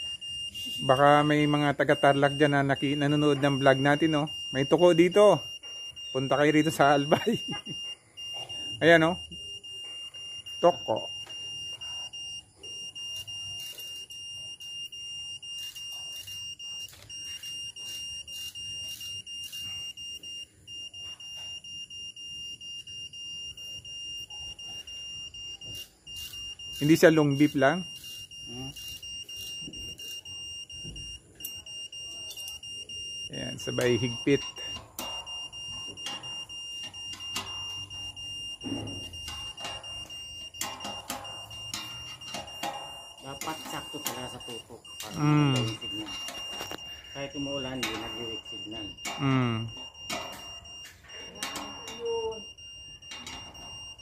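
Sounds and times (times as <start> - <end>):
signal finder beeping: 0.0 - 54.0.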